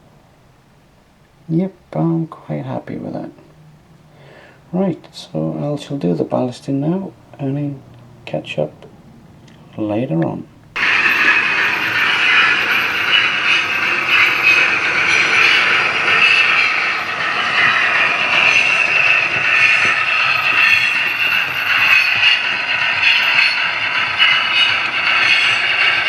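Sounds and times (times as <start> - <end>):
model train whirring on track: 0.0 - 26.0.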